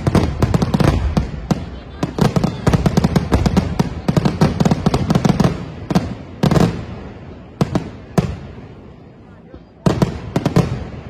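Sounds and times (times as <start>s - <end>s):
fireworks bursts and crackle: 0.0s - 11.0s
heavy fireworks boom: 0.0s - 11.0s.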